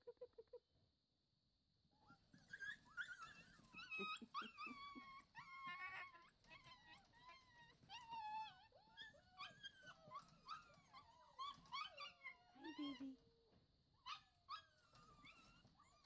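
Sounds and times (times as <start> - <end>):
puppies whining and yipping: 2.0 - 16.0.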